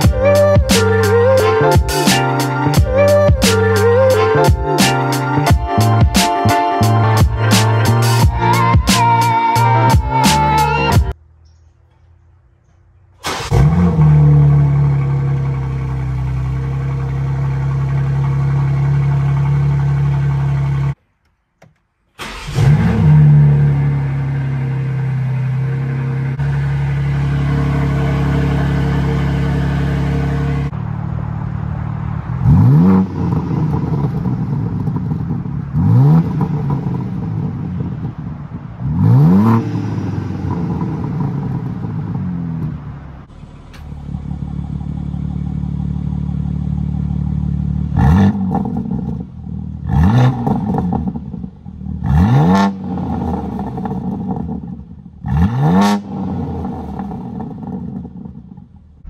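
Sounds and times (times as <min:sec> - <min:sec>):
engine revs blipped: 0:00.0 - 0:11.6, 0:13.2 - 0:21.0, 0:22.2 - 0:58.7
car engine starting and idling: 0:00.0 - 0:59.0.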